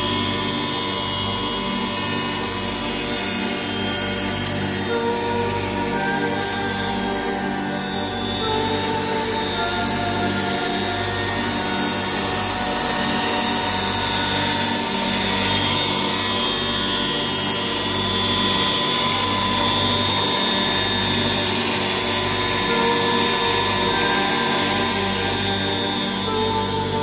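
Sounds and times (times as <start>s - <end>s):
high even whine: 0.0s - 27.0s
model helicopter rotor hovering: 0.0s - 27.0s.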